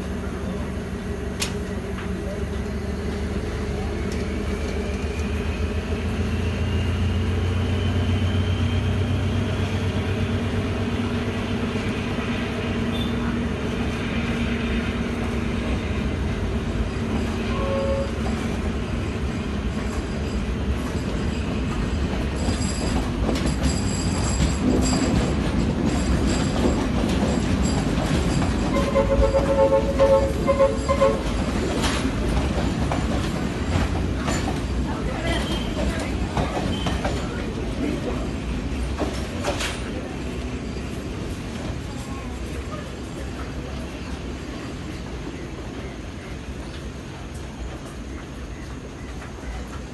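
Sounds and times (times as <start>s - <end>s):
rattling clicks of train: 0.0s - 49.9s
train rumbling on rails: 0.0s - 49.9s.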